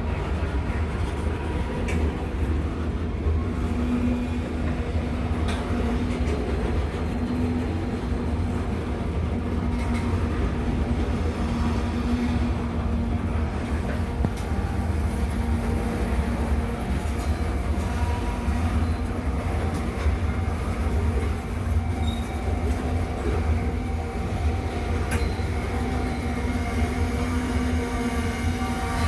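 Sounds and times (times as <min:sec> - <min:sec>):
freight train rumbling: 0:00.0 - 0:29.0.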